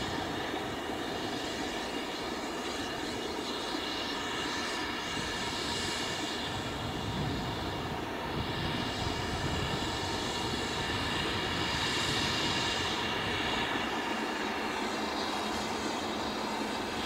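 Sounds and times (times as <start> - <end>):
steam locomotive working hard: 0.0 - 17.0.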